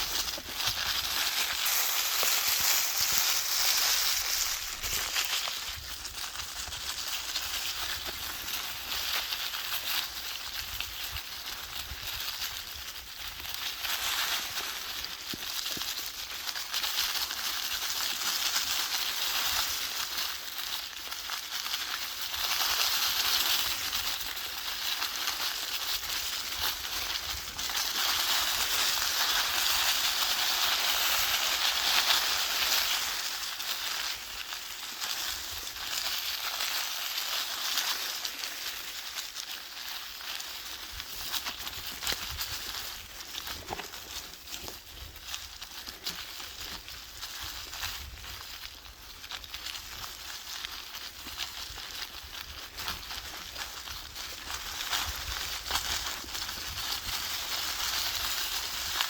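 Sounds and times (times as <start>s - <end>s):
dry leaves rustling: 0.0s - 59.0s.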